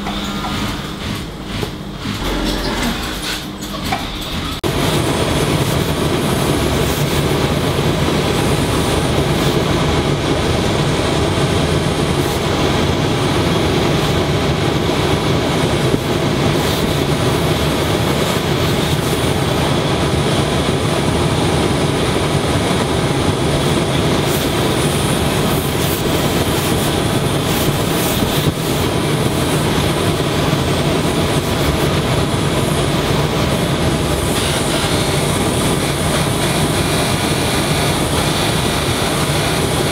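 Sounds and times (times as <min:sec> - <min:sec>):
steam ironing machine drone and hiss: 0:00.0 - 0:39.9.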